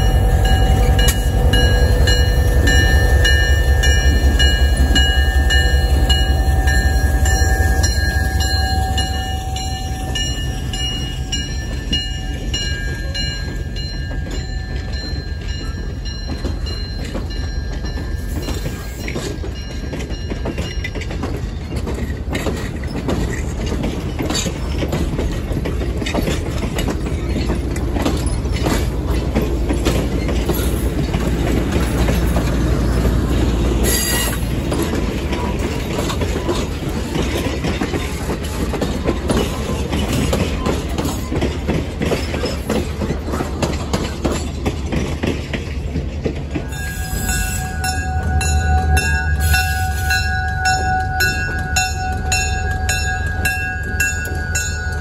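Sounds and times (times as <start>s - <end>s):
diesel locomotive engine: 0.0s - 55.0s
wheels clicking over rail joints: 0.0s - 55.0s.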